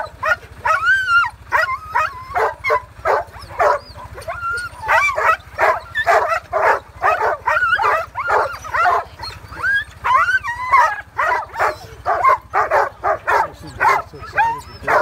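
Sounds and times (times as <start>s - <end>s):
dogs whining: 0.0s - 15.0s
sled dogs barking and yipping: 0.0s - 15.0s.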